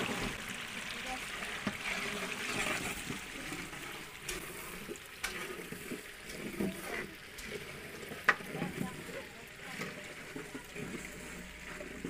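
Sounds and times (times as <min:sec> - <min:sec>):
ladle stirring gravy in pot: 0:00.0 - 0:12.0.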